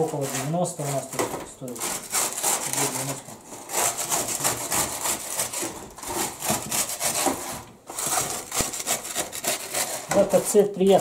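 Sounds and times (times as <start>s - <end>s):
dried fish scraping a metal tray: 0.0s - 11.0s.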